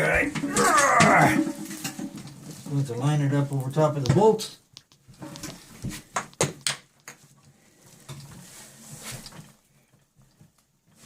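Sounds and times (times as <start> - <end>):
scraping and shuffling: 0.0 - 6.4, 7.1 - 11.0.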